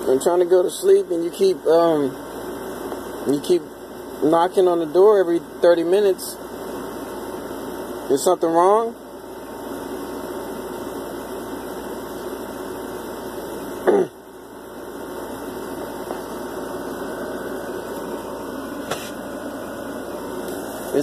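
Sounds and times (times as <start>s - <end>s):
appliance humming: 0.0s - 21.0s.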